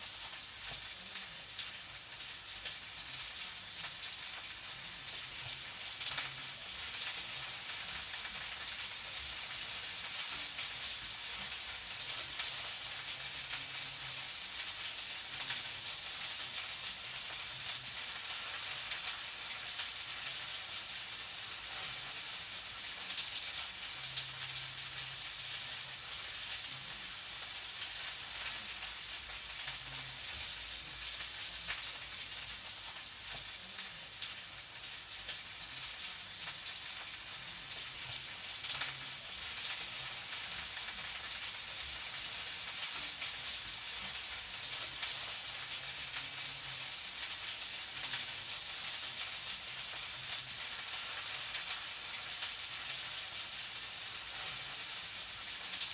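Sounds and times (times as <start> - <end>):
food sizzling in a pan: 0.0 - 55.9.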